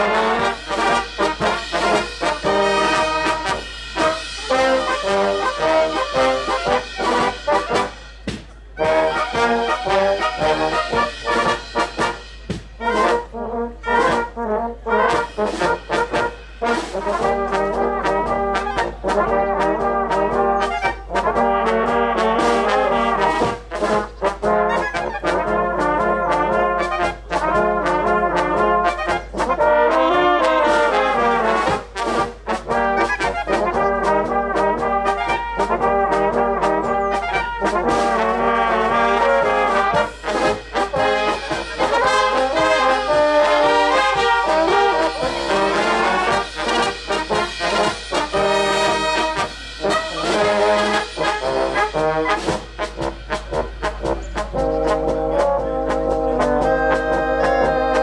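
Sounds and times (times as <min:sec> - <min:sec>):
brass band music: 0:00.0 - 0:58.0.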